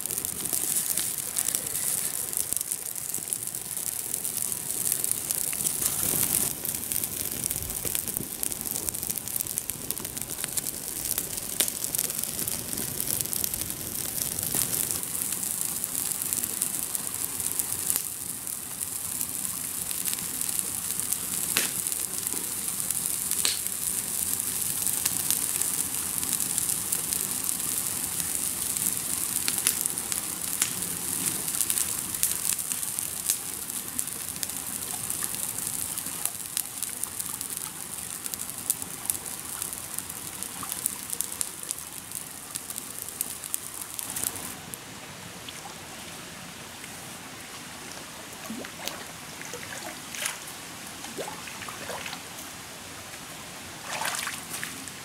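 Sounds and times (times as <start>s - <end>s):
campfire crackling and popping: 0.0s - 44.8s.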